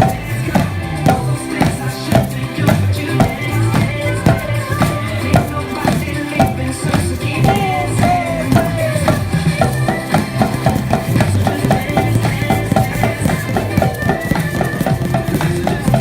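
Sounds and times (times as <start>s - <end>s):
group drumming on exercise balls: 0.0s - 16.0s
recorded song with steady beat: 0.0s - 16.0s.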